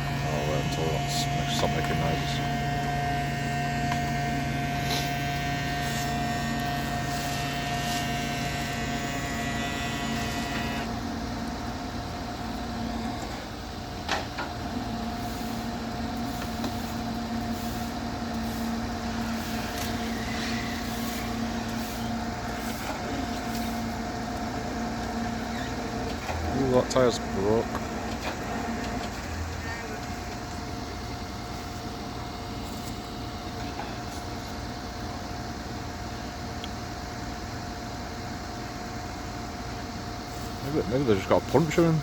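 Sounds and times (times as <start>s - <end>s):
flatbed truck running: 0.0s - 38.5s
high machine whine: 0.0s - 42.0s.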